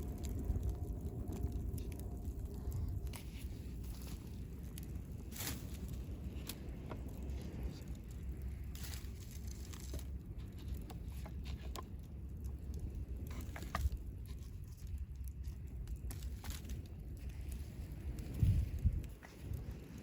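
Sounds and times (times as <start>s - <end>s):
campfire crackling and popping: 0.0s - 20.0s
wind rumble on microphone: 0.0s - 20.0s.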